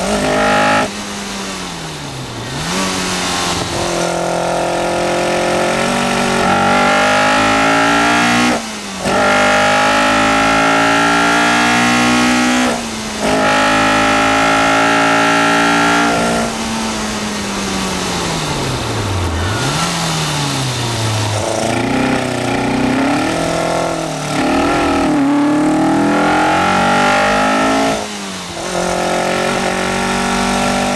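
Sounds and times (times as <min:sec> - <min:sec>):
car engine revving hard: 0:00.0 - 0:30.9.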